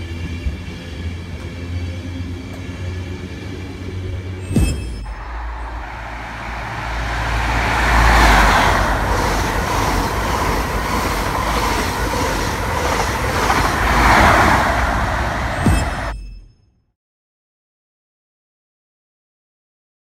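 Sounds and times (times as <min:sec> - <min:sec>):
train wheels rumbling on rail: 0:00.0 - 0:16.1.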